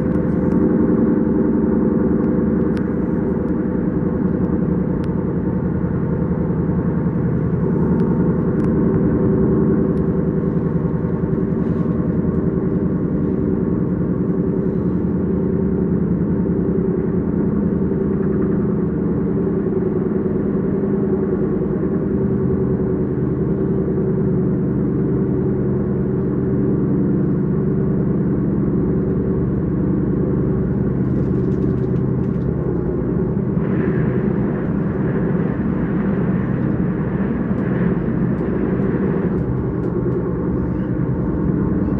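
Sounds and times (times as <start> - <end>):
train humming tones: 0.0 - 41.9
train rumbling: 0.0 - 41.9.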